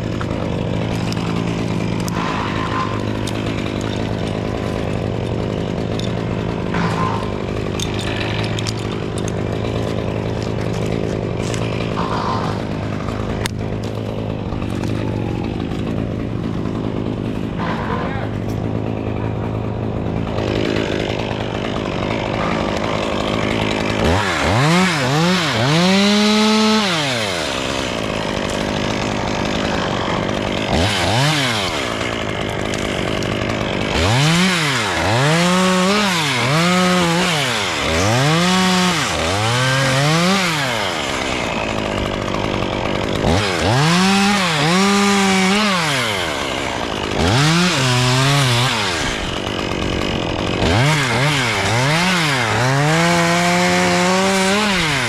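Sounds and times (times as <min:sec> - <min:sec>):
chainsaw cutting wood: 0:00.0 - 0:55.0
chainsaw idling and revving: 0:00.0 - 0:55.0.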